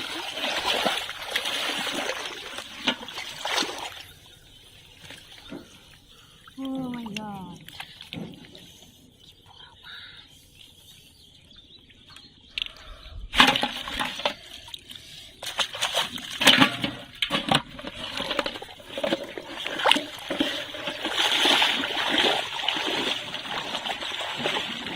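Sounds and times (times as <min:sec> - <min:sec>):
water splashing and sloshing: 0:00.0 - 0:09.4, 0:12.0 - 0:24.9.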